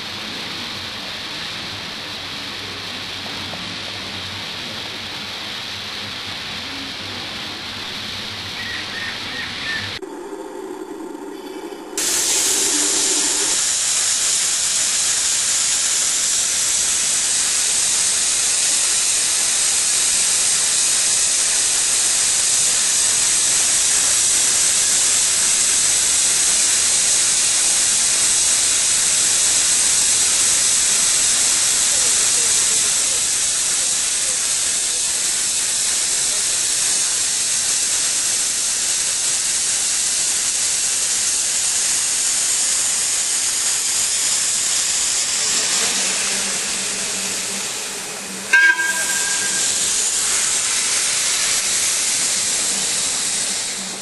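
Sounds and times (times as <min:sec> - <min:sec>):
steam locomotive hissing steam: 0:00.0 - 0:54.0.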